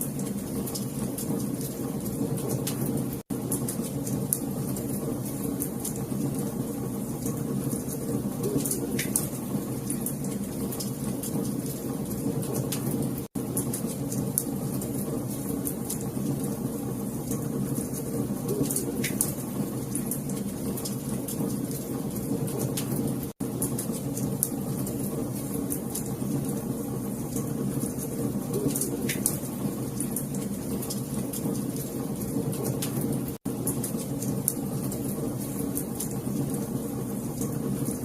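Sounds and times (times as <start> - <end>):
low rumble of burning: 0.0 - 38.0
wood fire crackling and popping: 0.0 - 38.0.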